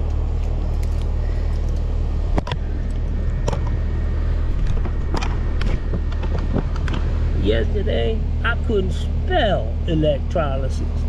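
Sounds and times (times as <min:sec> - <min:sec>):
machine rumbling: 0:00.0 - 0:11.0.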